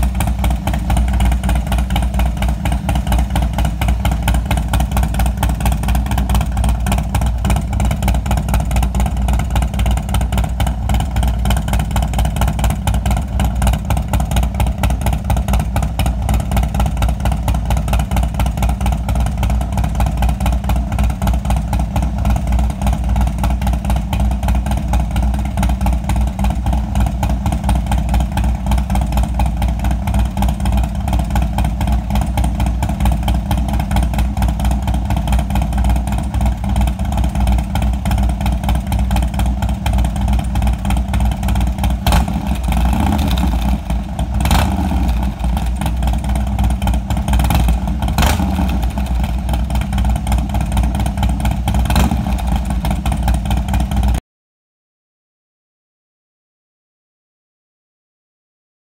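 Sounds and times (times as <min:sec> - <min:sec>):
motorcycle engine idling: 0:00.0 - 0:54.2.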